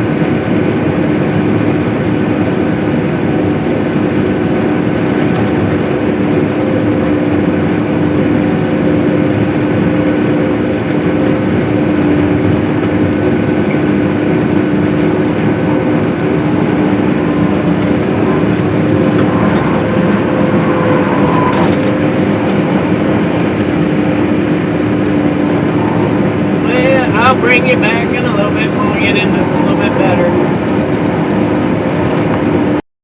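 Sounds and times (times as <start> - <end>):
swather engine and machinery drone: 0.0 - 32.8.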